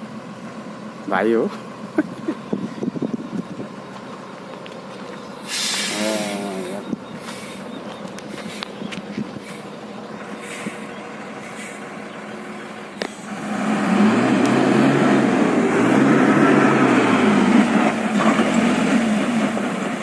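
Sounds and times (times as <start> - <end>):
diesel truck engine straining: 0.0 - 20.0.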